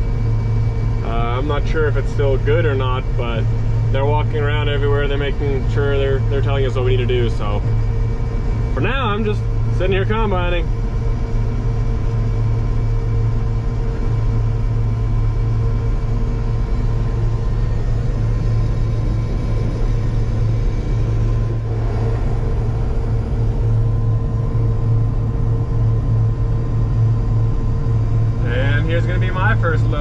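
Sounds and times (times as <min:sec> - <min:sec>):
combine harvester engine drone: 0:00.0 - 0:30.0
constant machine whine: 0:00.0 - 0:30.0.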